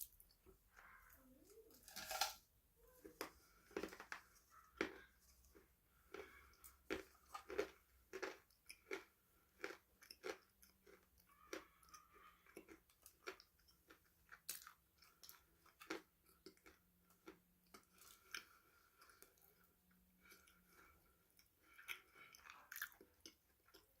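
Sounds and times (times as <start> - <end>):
person chewing crunchy food: 1.8 - 2.4, 3.0 - 24.0.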